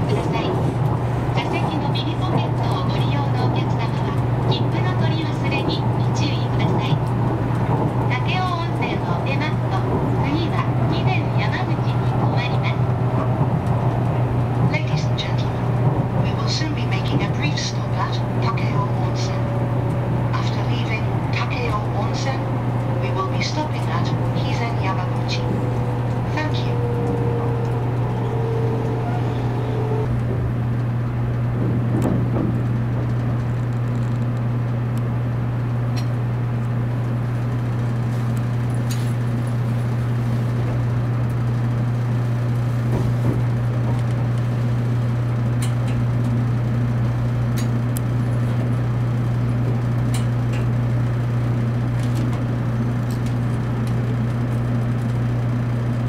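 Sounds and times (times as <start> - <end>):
train cabin low hum: 0.0 - 56.0
train running rumble: 0.0 - 56.0.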